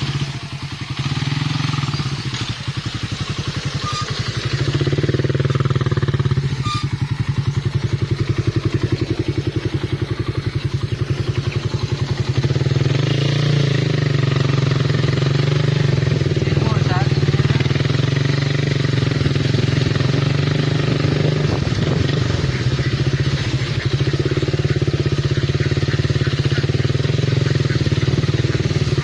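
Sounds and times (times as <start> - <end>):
motorcycle engine puttering: 0.0 - 29.0.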